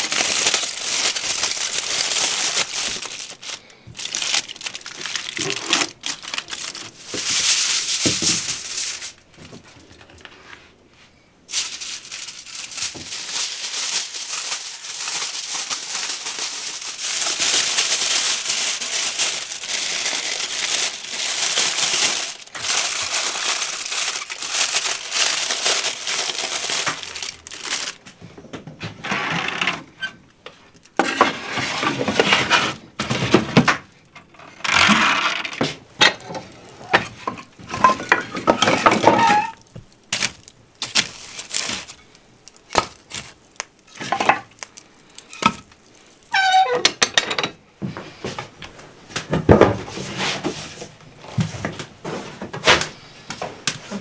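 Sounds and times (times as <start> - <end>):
aluminium foil crinkling: 0.0 - 10.3, 11.5 - 28.1, 30.7 - 47.1.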